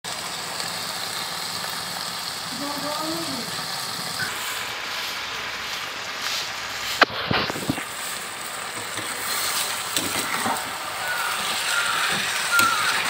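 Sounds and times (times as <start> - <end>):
chicken sizzling in a pan: 0.1 - 13.0.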